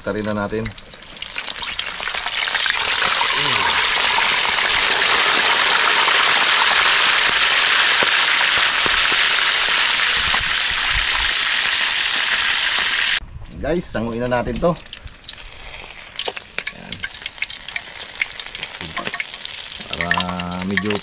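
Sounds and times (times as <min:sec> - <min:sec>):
fish sizzling in hot oil: 0:00.0 - 0:13.2, 0:14.8 - 0:21.0.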